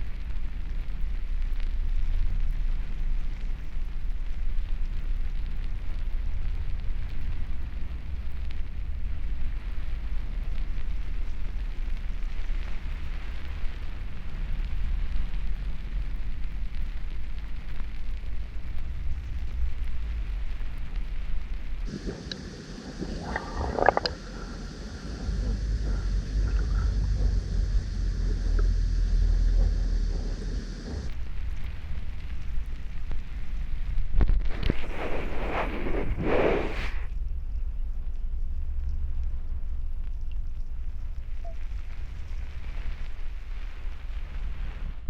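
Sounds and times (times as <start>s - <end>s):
underwater spring rumble: 0.0s - 45.0s.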